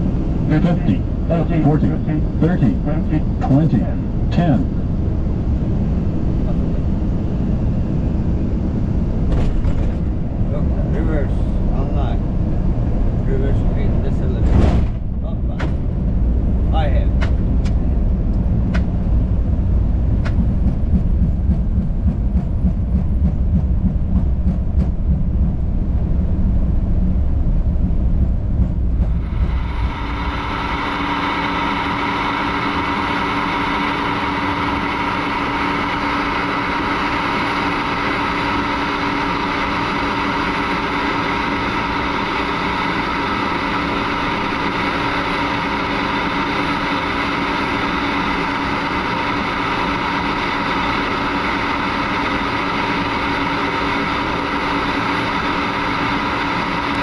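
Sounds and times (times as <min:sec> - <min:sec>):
steady bright hum with tones: 0:00.0 - 0:18.6, 0:25.1 - 0:57.0
jet cockpit low rumble: 0:00.0 - 0:57.0.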